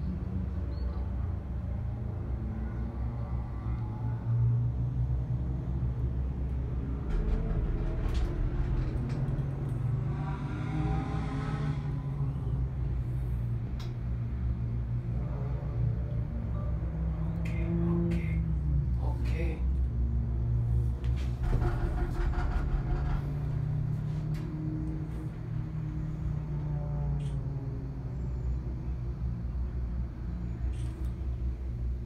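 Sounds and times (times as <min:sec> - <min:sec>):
gondola cabin rumble: 0:00.0 - 0:32.0.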